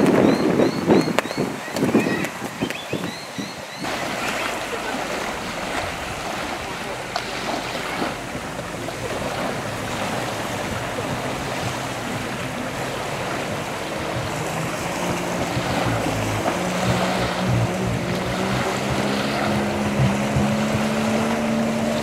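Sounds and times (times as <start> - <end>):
jet ski engine: 0.0 - 22.0
water lapping: 0.0 - 22.0
wind: 0.0 - 22.0.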